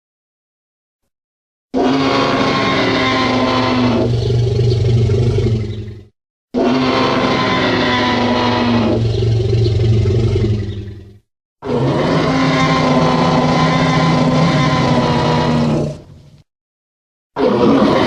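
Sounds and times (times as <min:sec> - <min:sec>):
low rough dinosaur roar: 0:01.7 - 0:16.2, 0:17.4 - 0:18.0.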